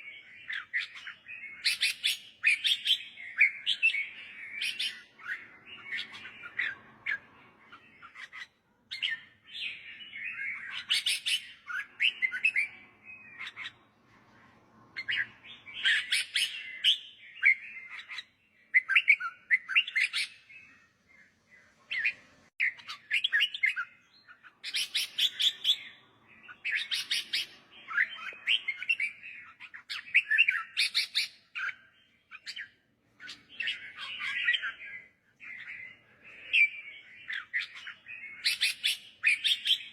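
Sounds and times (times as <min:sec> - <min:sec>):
bulbul singing: 0:00.0 - 0:13.8, 0:15.0 - 0:39.9.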